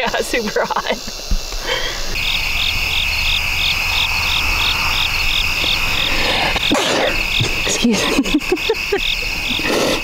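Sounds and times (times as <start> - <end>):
insects trilling: 0.0 - 10.0
pulsing insect call: 0.0 - 10.0.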